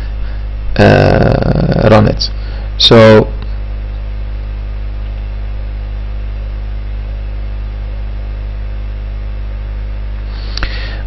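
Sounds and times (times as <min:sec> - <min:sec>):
low electrical hum with hiss: 0:00.0 - 0:11.0.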